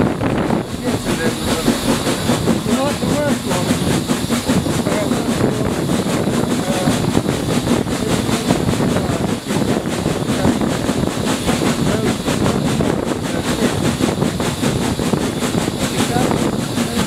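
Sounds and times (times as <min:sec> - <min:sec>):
train wheels rumbling on track: 0:00.0 - 0:17.0
wind buffeting microphone: 0:00.0 - 0:17.0.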